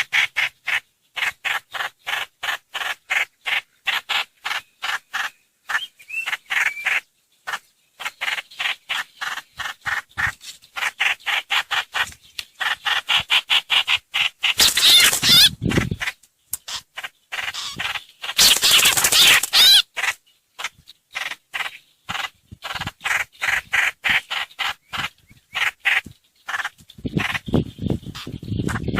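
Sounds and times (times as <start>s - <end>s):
bird chattering calls: 0.0s - 28.9s.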